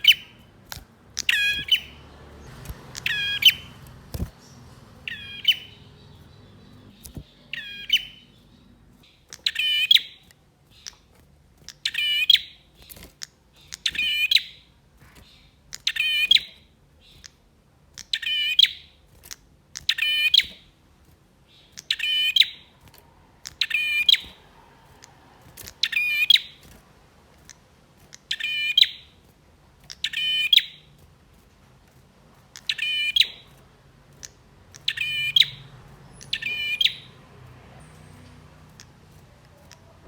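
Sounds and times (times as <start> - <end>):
bird chattering song: 0.0 - 20.8, 21.4 - 26.8, 27.4 - 31.0, 32.4 - 40.0.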